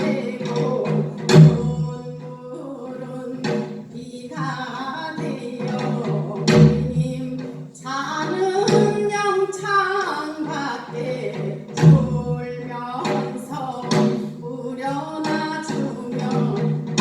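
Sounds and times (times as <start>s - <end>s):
woman singing folk song: 0.0s - 17.0s.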